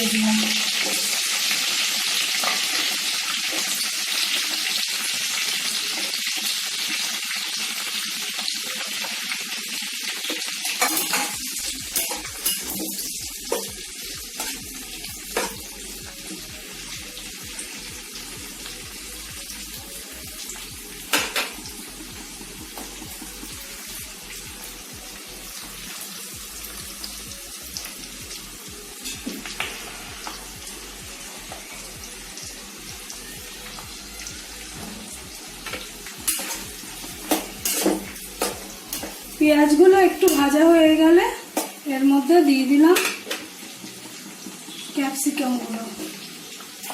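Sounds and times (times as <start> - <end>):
onions sizzling in hot oil: 0.0 - 46.9.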